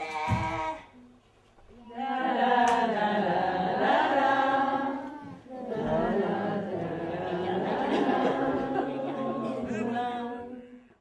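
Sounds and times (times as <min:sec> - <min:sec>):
voices singing held chant-like notes: 0:01.8 - 0:11.0.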